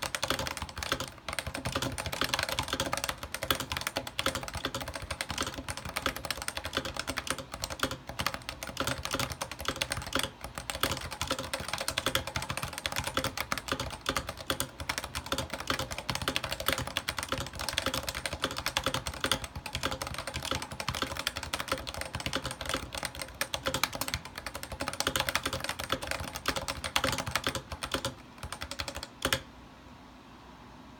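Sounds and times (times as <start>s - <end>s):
fast keyboard typing: 0.0s - 29.5s.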